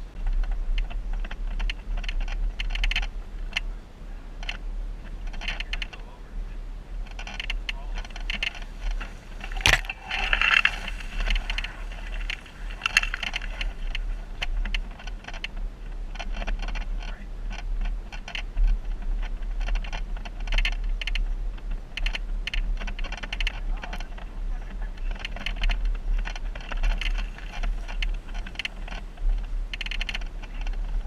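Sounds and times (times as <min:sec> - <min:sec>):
low vehicle rumble: 0:00.0 - 0:31.0
vehicle clicks knocks and rattles: 0:00.2 - 0:03.7, 0:04.4 - 0:06.2, 0:07.0 - 0:31.0.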